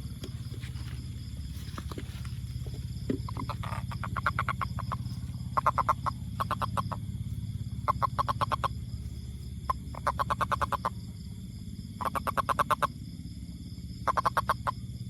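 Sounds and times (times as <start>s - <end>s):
steady low hum: 0.0s - 15.0s
toad calling in quick pulses: 0.2s - 13.0s, 13.9s - 14.8s.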